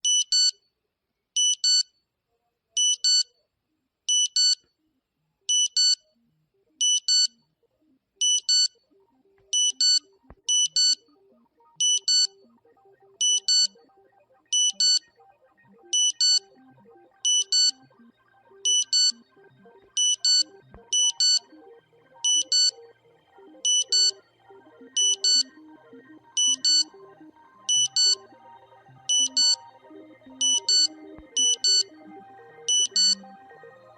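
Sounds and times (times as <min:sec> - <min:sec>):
quiet music: 0:04.8 - 0:33.9.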